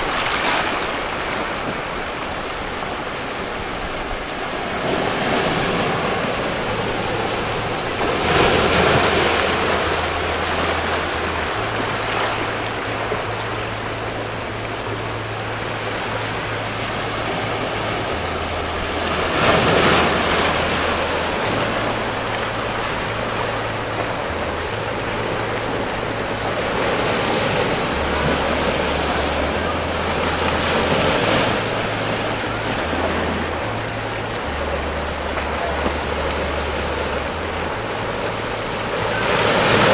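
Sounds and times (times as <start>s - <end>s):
waves breaking on rocky shore: 0.0s - 39.9s.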